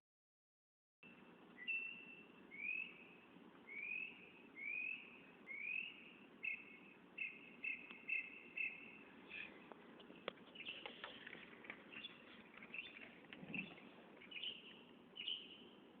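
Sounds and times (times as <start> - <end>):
mockingbird singing: 1.6 - 9.6, 10.5 - 15.8.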